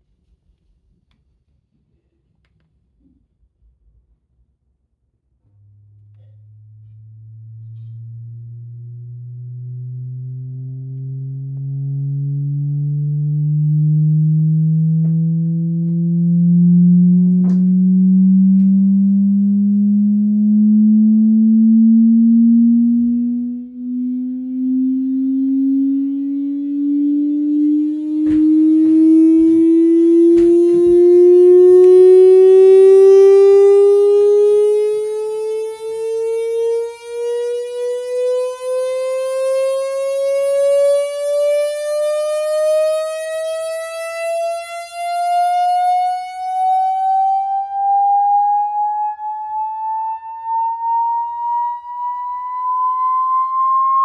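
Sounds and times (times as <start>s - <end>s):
rising buzzy test tone: 5.4s - 54.0s.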